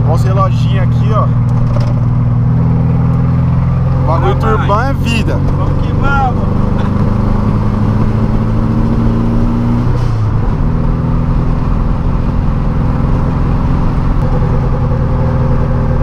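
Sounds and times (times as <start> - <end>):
car engine under way: 0.0 - 16.0.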